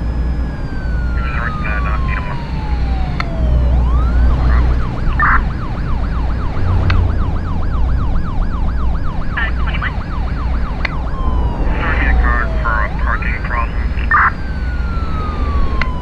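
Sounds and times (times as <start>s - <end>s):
emergency vehicle siren: 0.0s - 16.0s
low traffic rumble: 0.0s - 16.0s.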